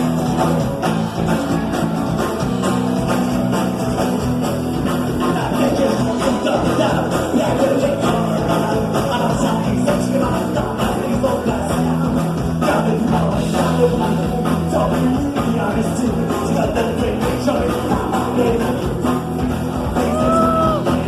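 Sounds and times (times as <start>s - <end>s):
rock band playing: 0.0s - 21.0s
steady drum beat: 0.0s - 21.0s.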